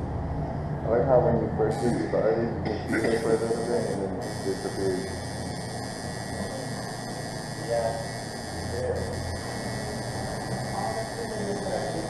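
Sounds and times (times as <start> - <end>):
faint voices: 1.6 - 12.0
tattoo machine humming: 1.7 - 12.0.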